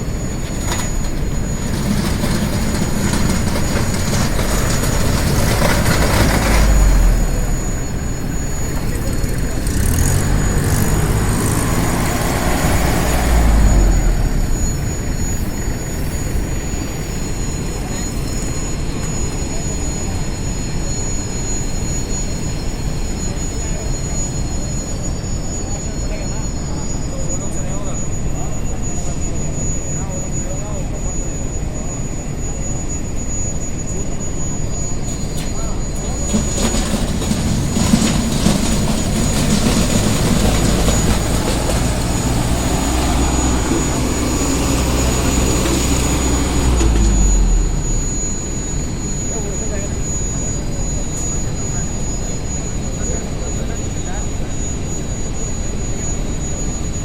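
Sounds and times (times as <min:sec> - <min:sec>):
tractor engine rumbling: 0:00.0 - 0:54.5
faint high-pitched whine: 0:00.0 - 0:57.0
thin high whistle: 0:00.0 - 0:57.0.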